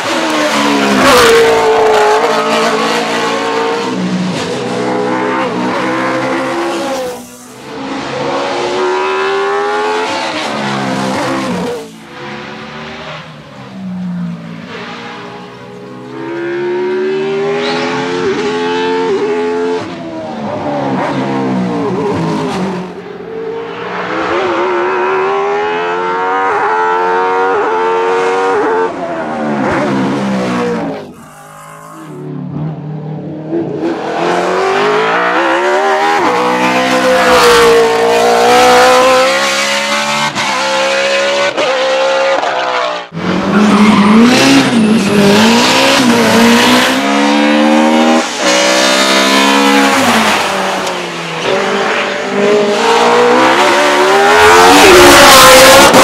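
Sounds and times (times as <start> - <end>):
racing engine at full throttle: 0.0 - 56.0.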